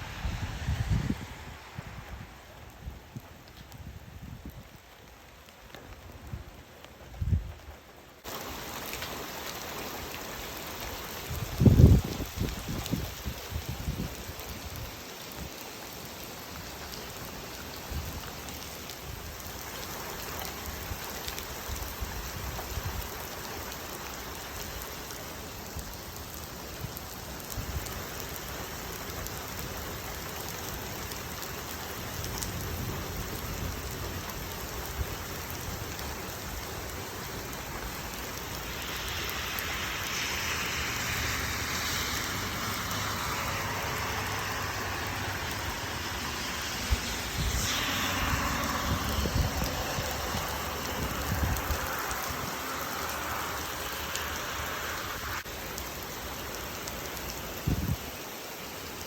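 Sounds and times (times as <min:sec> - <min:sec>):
rain and hail pouring down: 0:00.0 - 0:59.0.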